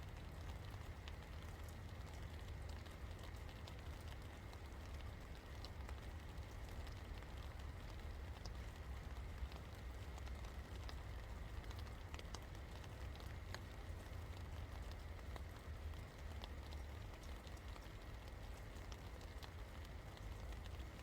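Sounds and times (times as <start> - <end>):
low steady rumble: 0.0 - 21.0
rain pattering on surfaces: 0.0 - 21.0.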